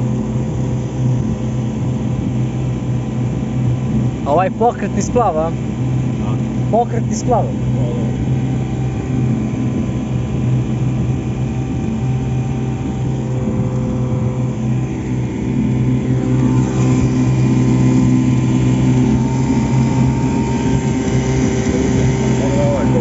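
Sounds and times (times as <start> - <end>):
outboard motor humming: 0.0 - 23.0.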